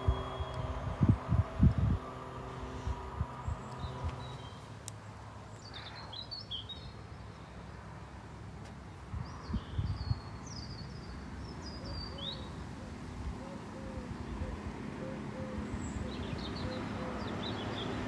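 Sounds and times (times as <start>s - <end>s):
steady mechanical hum: 0.0s - 5.7s, 6.8s - 18.0s
small birds chirping: 0.0s - 7.6s, 9.2s - 12.6s, 13.5s - 18.0s.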